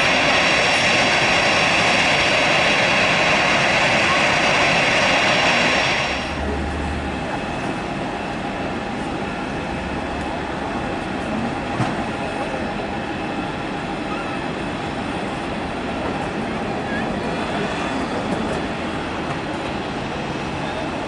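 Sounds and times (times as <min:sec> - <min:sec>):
loud jet engine noise: 0:00.0 - 0:21.0.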